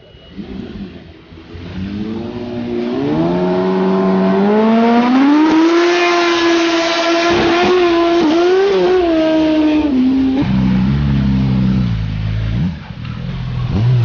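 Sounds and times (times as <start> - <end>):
motorcycle engine revving: 0.2 - 14.0.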